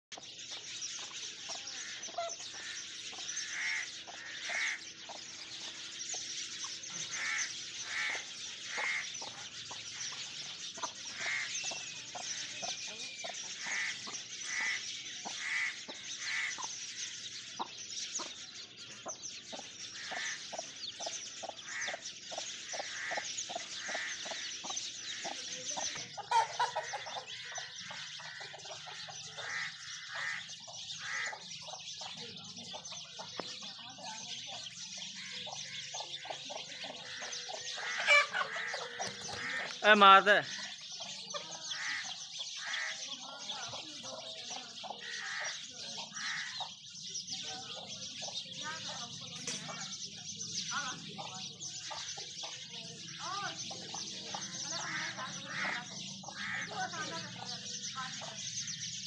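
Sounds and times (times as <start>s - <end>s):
chickens clucking: 0.1s - 59.0s.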